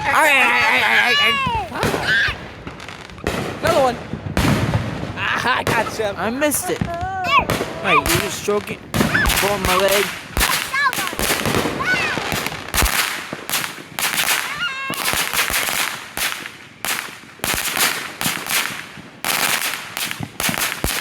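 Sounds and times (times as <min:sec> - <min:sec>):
firecrackers banging: 0:00.0 - 0:21.0.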